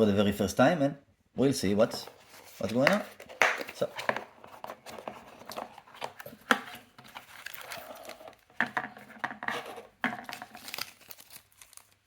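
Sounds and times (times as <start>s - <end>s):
package rustling and scraping: 1.8s - 12.0s.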